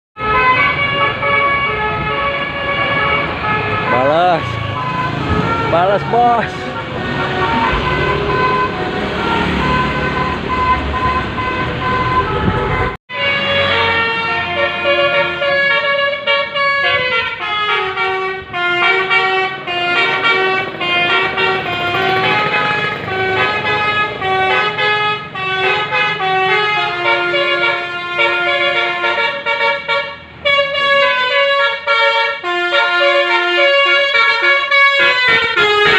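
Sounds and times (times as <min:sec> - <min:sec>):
multi-tone air horn melody: 0:00.2 - 0:35.9
bus engine rumble: 0:00.3 - 0:35.9.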